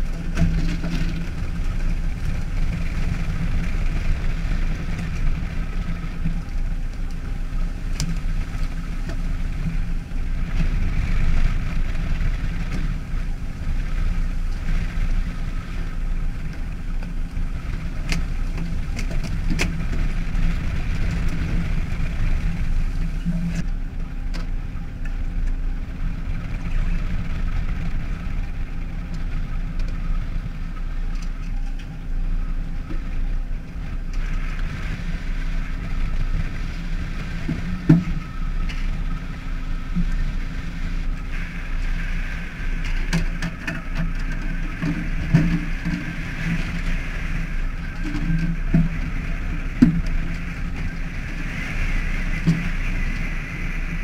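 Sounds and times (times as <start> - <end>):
boat engine humming: 0.0 - 54.0
hiss of water and wind: 0.0 - 54.0.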